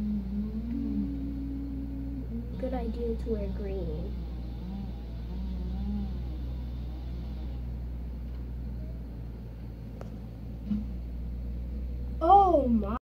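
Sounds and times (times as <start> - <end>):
distant truck engine running: 0.0 - 13.0.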